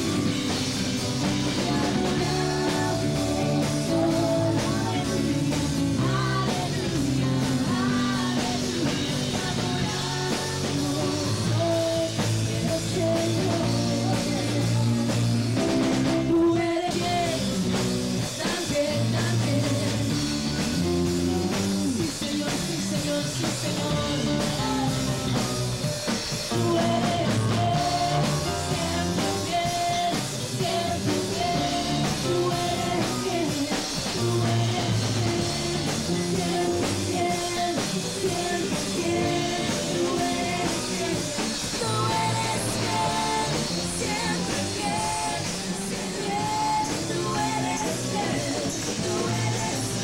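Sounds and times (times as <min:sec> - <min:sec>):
people singing: 0:00.0 - 0:20.9, 0:21.5 - 0:50.0
bass guitar: 0:00.0 - 0:50.0
drum kit: 0:00.0 - 0:50.0
electronic keyboard: 0:00.0 - 0:50.0.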